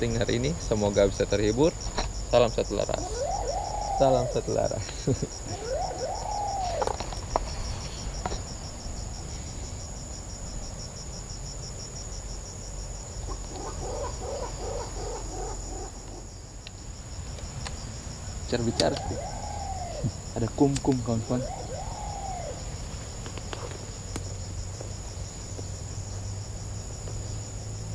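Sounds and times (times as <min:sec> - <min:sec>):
insects trilling: 0:00.0 - 0:27.9.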